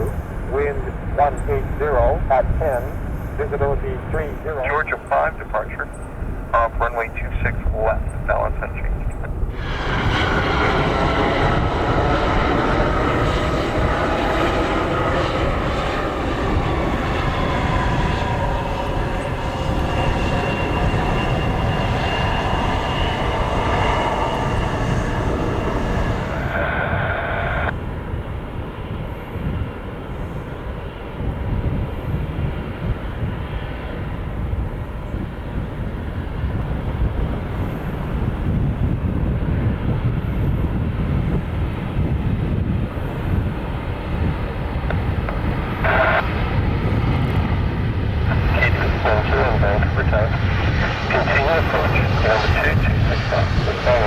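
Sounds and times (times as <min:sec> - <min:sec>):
jet engine rumble: 0:00.0 - 0:54.0
jet engine whine: 0:00.0 - 0:54.0.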